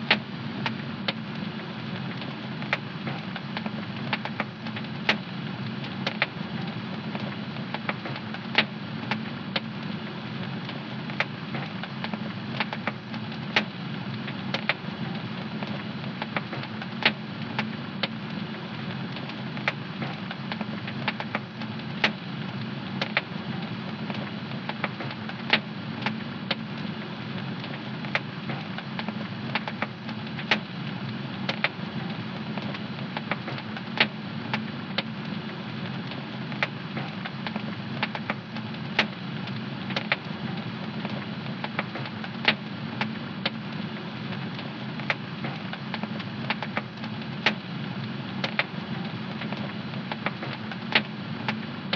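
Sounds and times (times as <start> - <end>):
fire crackling: 0.0 - 51.9
fire popping and snapping: 0.0 - 51.9.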